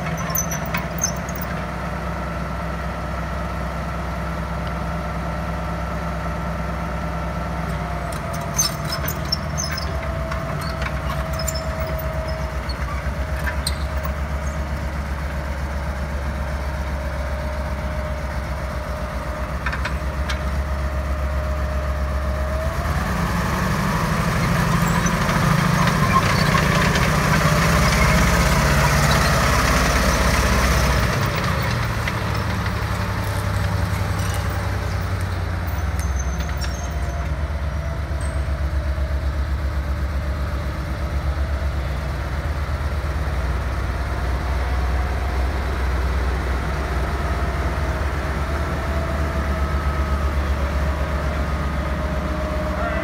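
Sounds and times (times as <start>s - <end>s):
tank radial engine running: 0.0s - 53.0s.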